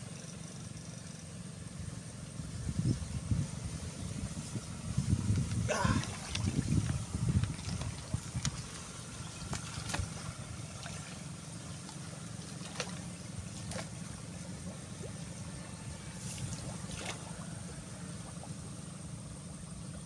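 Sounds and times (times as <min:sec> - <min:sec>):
electrofishing rig buzzing: 0:01.8 - 0:20.0.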